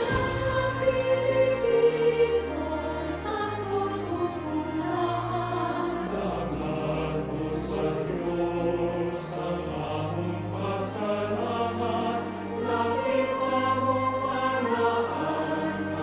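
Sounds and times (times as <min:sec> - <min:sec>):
choir singing slow hymn: 0:00.0 - 0:16.0.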